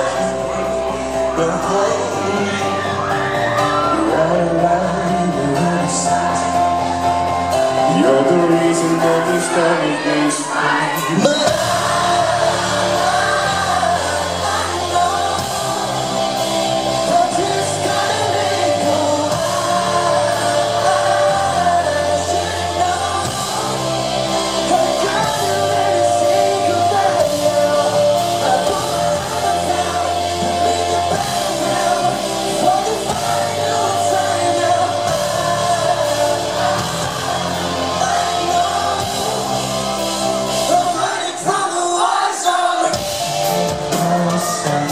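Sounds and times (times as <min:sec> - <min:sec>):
bass: 0:00.0 - 0:42.0, 0:42.8 - 0:44.9
drums: 0:00.0 - 0:44.9
keyboards: 0:00.0 - 0:44.9
man singing: 0:00.0 - 0:44.9.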